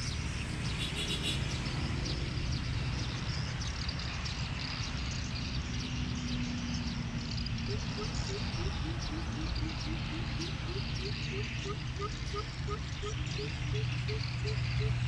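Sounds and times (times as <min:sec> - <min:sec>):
city traffic rumble: 0:00.0 - 0:15.0
small birds chirping: 0:00.0 - 0:15.0.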